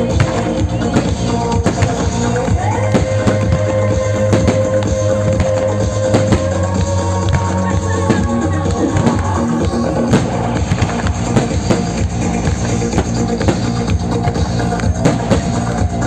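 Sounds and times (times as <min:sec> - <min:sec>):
firework bangs and cracks: 0:00.0 - 0:16.0
loud music with drum beat: 0:00.0 - 0:16.0.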